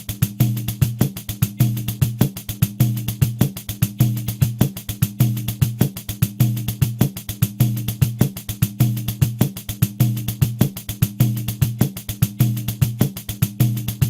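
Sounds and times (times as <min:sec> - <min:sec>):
low drum tone: 0:00.0 - 0:14.0.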